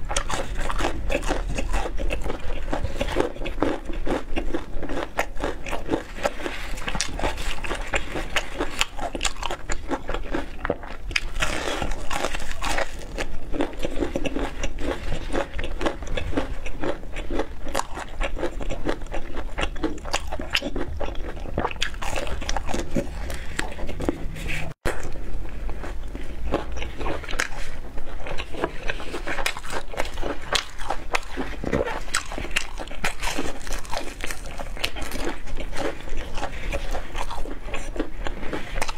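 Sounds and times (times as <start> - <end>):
chewing crunchy fried chicken: 0.0 - 38.9.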